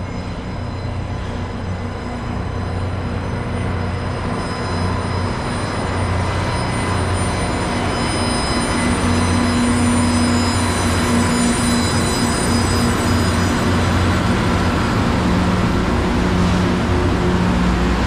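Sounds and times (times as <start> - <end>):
diesel train engine approaching: 0.0 - 18.0.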